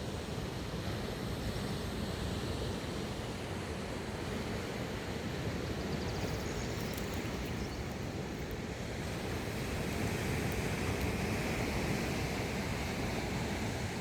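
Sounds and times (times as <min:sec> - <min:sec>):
sea waves washing onto shore: 0:02.7 - 0:14.0.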